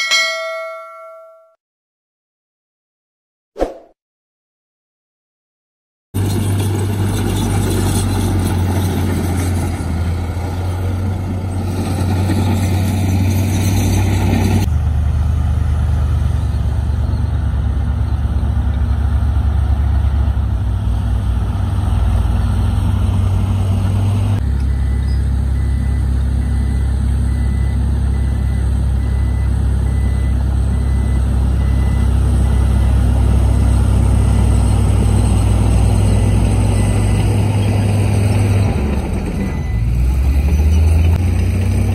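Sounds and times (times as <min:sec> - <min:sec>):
diesel truck engines humming: 0:06.2 - 0:41.9.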